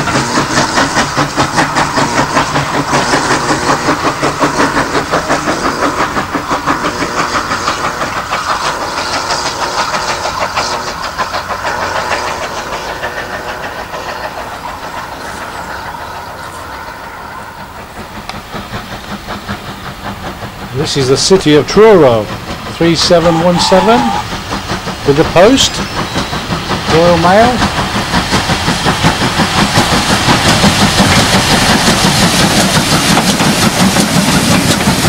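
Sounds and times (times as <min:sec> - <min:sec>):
steam locomotive exhaust beats: 0:00.0 - 0:35.0.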